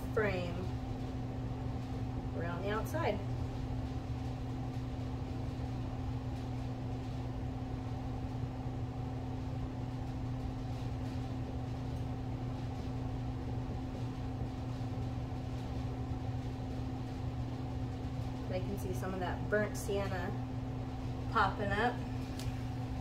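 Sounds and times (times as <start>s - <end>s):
machine humming drone: 0.0s - 23.0s.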